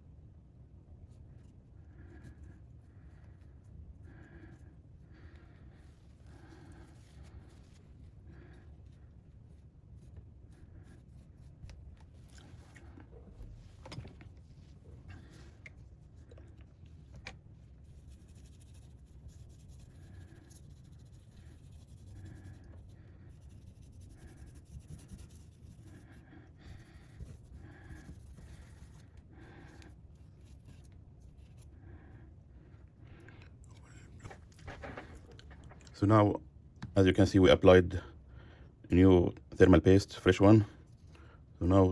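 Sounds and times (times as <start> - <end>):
faint scraping and rubbing: 1.1 - 32.4, 33.5 - 36.3.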